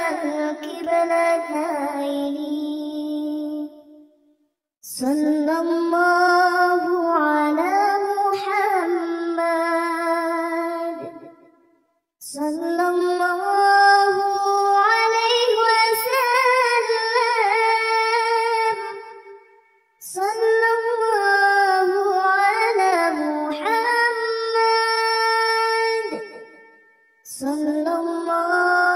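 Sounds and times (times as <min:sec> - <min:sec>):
child singing a melody: 0:00.0 - 0:04.0, 0:04.8 - 0:11.3, 0:12.2 - 0:19.3, 0:20.0 - 0:26.4, 0:27.2 - 0:28.9.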